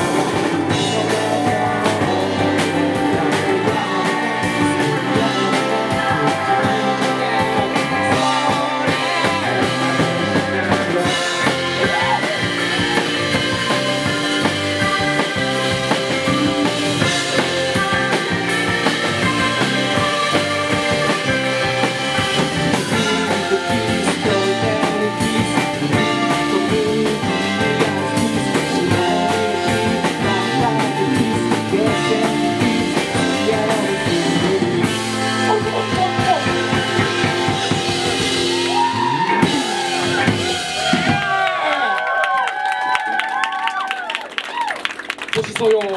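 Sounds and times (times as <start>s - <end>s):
rock band playing live: 0.0s - 45.9s.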